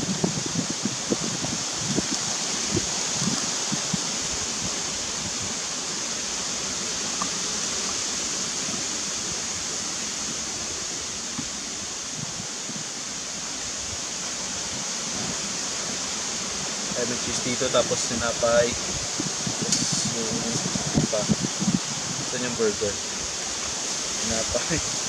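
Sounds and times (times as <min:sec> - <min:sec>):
wind through trees: 0:00.0 - 0:25.0.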